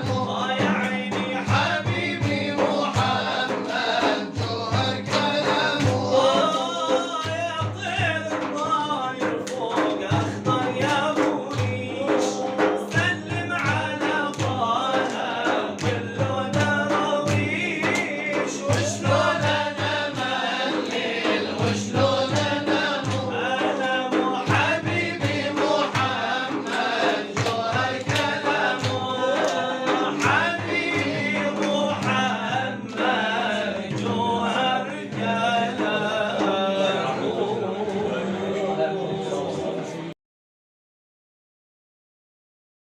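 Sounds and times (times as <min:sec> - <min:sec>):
steady drum beat: 0:00.0 - 0:38.1
men singing devotional chant: 0:00.0 - 0:40.2.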